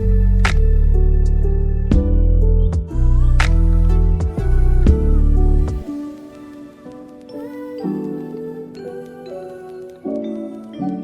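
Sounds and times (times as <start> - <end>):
gentle melody of soft notes: 0.0 - 11.0.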